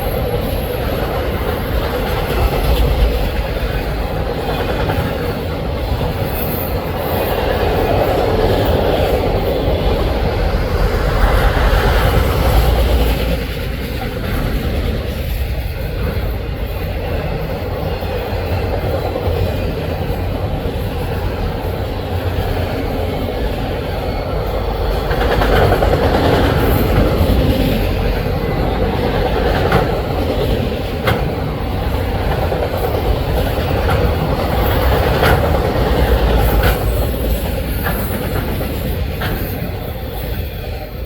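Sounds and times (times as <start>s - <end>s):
freight train rumbling past: 0.0s - 41.0s
wheels clicking on rails: 0.0s - 41.0s.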